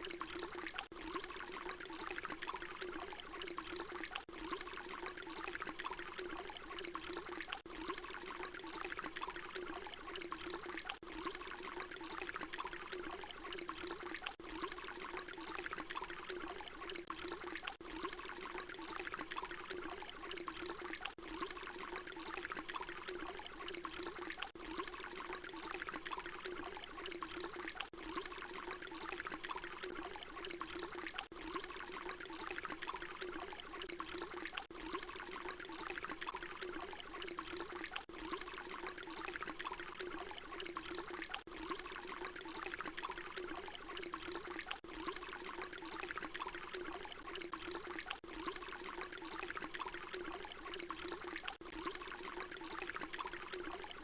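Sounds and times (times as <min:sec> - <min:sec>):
water pouring: 0:00.0 - 0:54.0.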